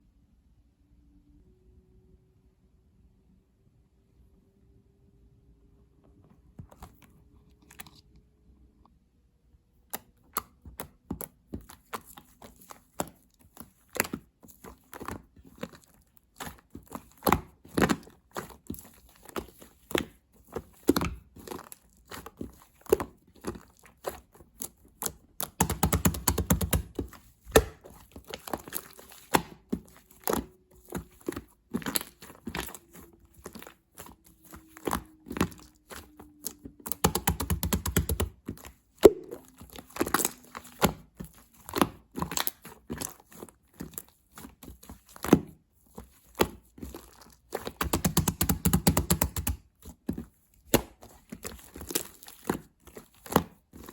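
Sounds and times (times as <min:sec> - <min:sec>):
slime squished by hand: 0:09.8 - 0:53.9.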